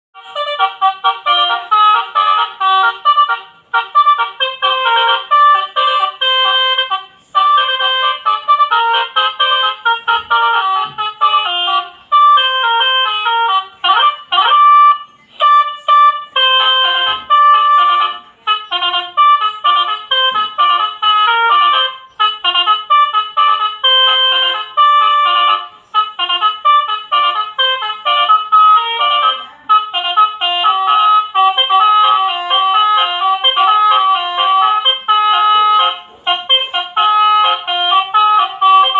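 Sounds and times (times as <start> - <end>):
musical bus horn tune: 0.2 - 38.9.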